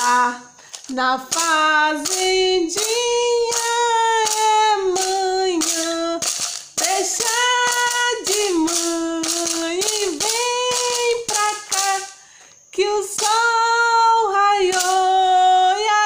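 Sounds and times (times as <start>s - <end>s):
woman singing children's song: 0.0s - 16.0s.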